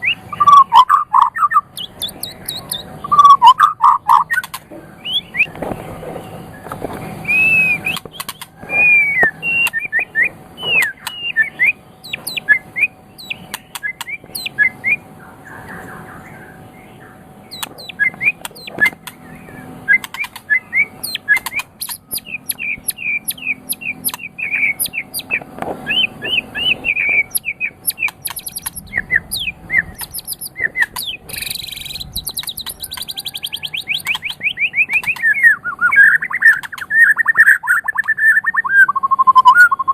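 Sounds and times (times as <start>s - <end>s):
songbird whistling and trilling: 0.0s - 5.6s, 6.5s - 39.9s.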